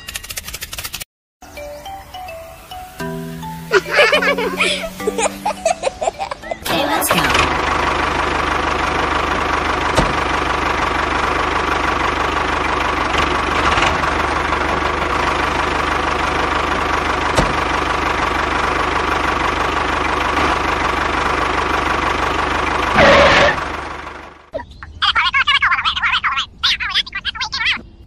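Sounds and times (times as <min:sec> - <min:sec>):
diesel tractor engine chugging: 0:01.5 - 0:25.4.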